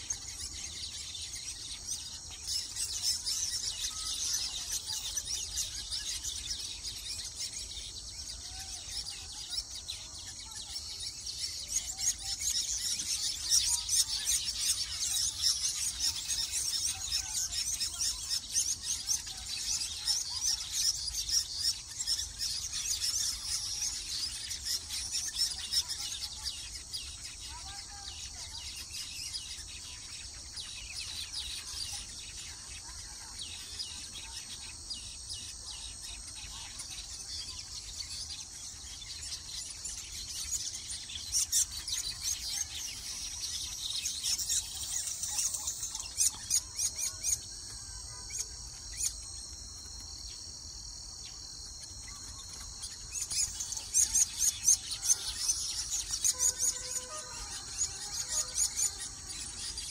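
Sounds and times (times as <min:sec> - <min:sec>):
weaver birds chattering: 0:00.0 - 0:59.9.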